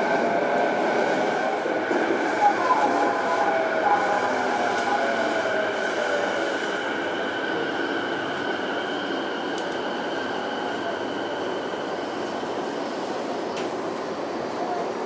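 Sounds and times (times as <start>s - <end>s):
train running noise with whine: 0.0s - 15.0s.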